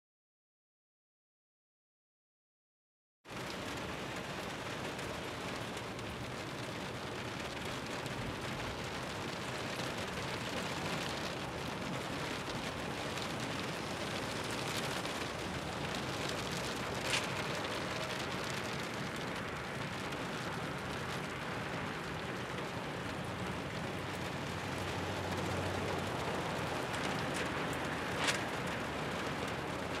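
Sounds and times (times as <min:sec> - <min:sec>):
steady rain falling: 0:03.3 - 0:30.0.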